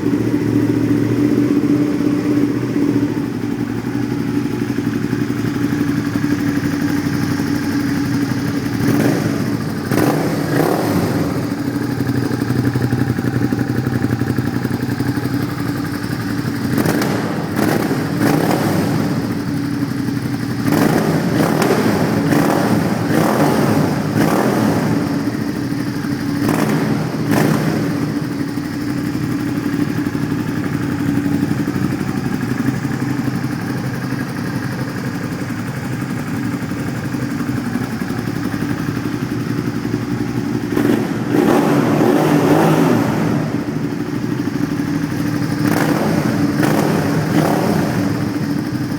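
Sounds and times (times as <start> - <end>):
motorcycle engine idling: 0.0 - 48.9
motorcycle throttle blips: 0.0 - 48.9.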